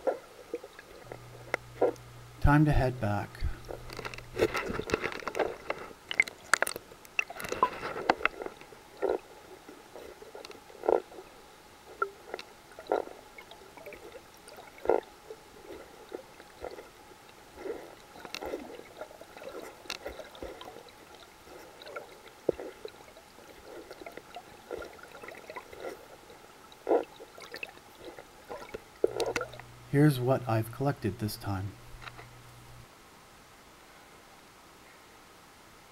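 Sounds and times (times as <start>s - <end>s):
underwater fin swishing: 3.0s - 32.8s.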